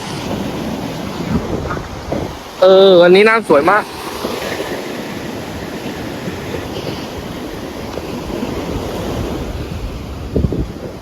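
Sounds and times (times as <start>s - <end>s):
sea waves washing on shore: 0.0s - 11.0s
wind rumbling on microphone: 0.0s - 11.0s.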